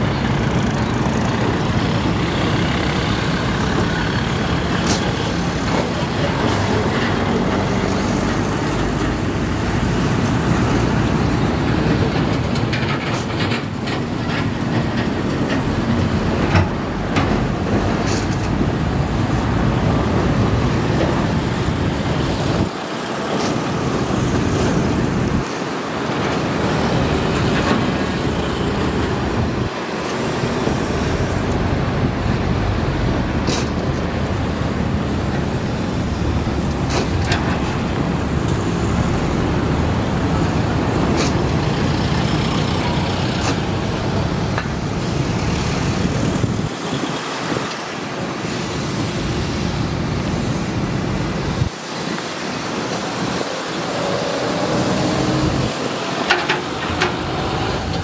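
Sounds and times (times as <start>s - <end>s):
excavator engine and hydraulics: 0.0s - 58.0s.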